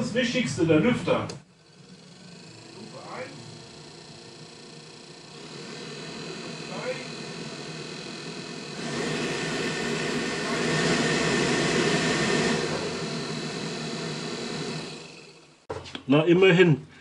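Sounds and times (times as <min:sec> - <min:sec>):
heater blower fan running: 0:00.0 - 0:15.7.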